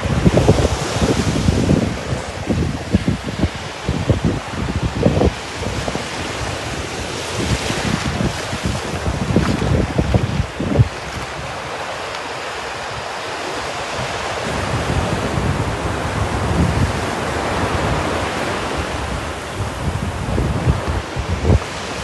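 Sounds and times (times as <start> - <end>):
sea waves washing in: 0.0 - 22.0
wind on microphone: 0.0 - 22.0.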